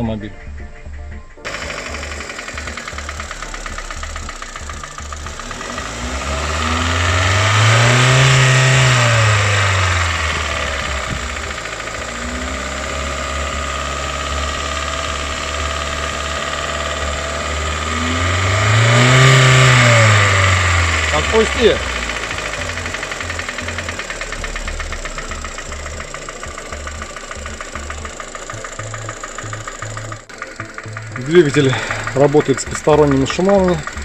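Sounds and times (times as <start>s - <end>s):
engine revving with knocking: 1.4s - 34.0s.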